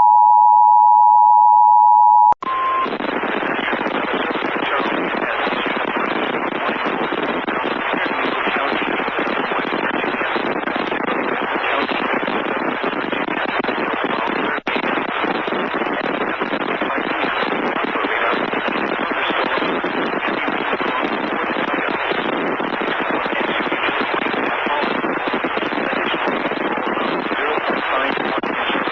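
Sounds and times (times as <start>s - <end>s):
radio static hiss: 2.4s - 28.9s.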